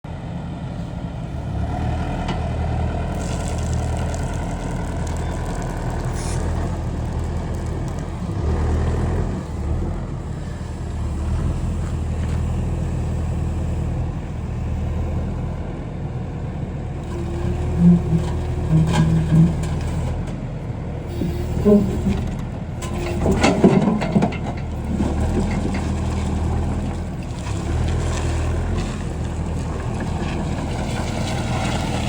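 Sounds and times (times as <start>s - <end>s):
excavator diesel engine running: 0.1s - 32.0s.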